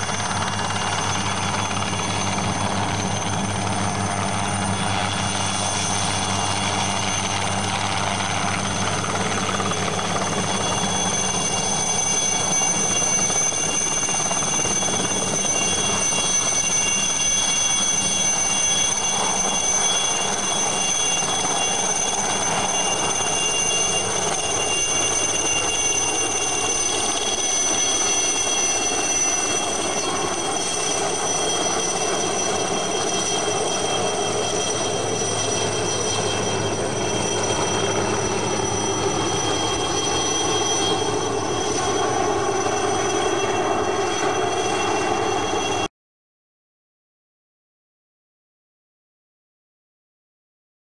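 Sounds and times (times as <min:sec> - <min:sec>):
helicopter rotor noise: 0:00.0 - 0:45.9
high turbine whine: 0:00.0 - 0:45.9.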